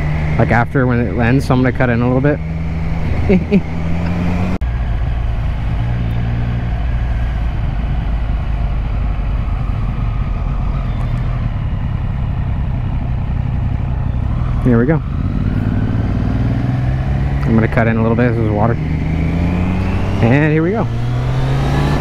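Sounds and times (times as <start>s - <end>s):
motorcycle engine running: 0.0s - 22.0s
riding wind rush: 0.0s - 22.0s.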